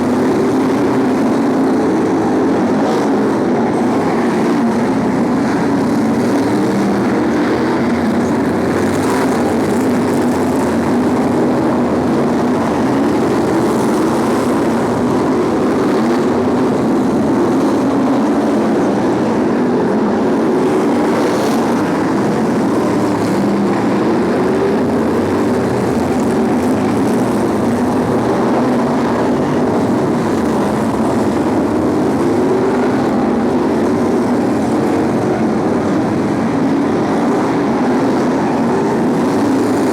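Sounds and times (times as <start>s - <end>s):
stock car engines racing: 0.0s - 39.9s.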